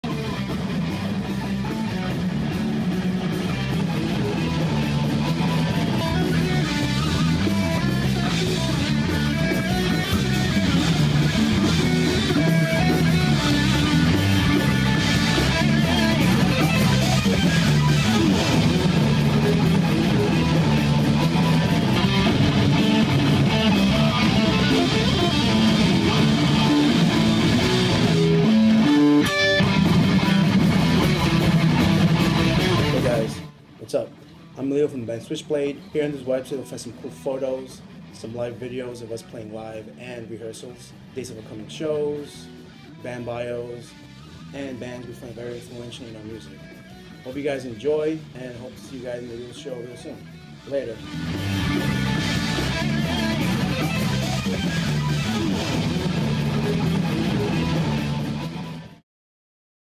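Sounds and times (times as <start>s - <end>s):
guitar rock music: 0.0s - 59.0s.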